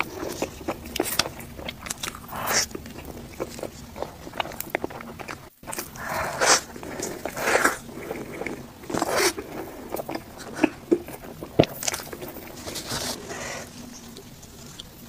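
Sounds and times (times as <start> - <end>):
chewing soft cake: 0.0 - 15.0.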